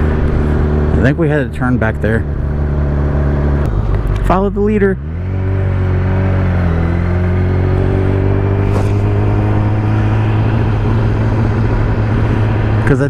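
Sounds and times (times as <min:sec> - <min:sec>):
motorcycle engine droning: 0:00.0 - 0:13.0
wind and road noise: 0:00.0 - 0:13.0.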